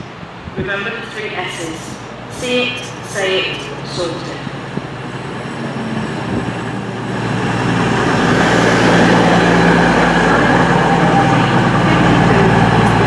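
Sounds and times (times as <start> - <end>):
diesel train engine: 0.0 - 13.0
rail rumble: 0.0 - 13.0.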